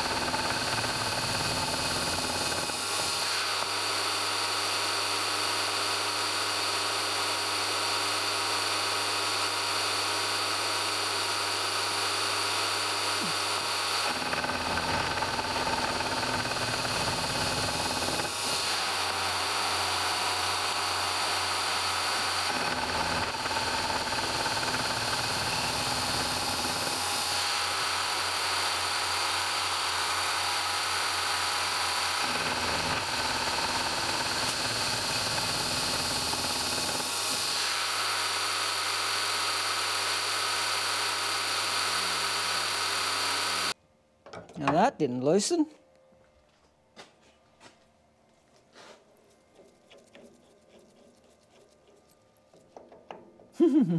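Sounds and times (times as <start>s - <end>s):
milling machine cutting metal: 0.0s - 43.8s.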